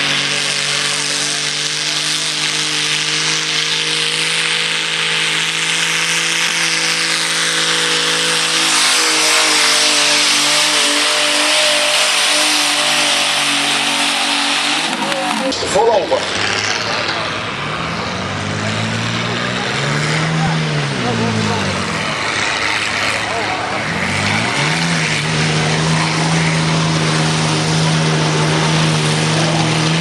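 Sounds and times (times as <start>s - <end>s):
engine running at high revs: 0.0s - 30.0s.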